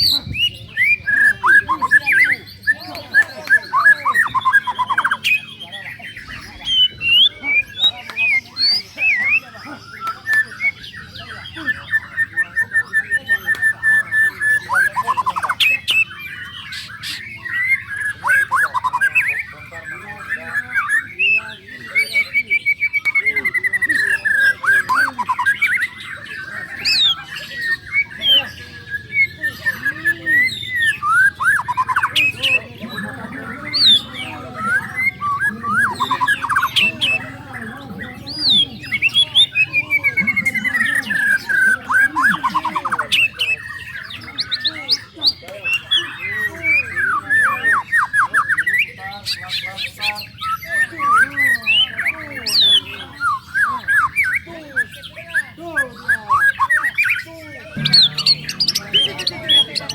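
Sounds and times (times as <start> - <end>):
birds singing: 0.0 - 59.9.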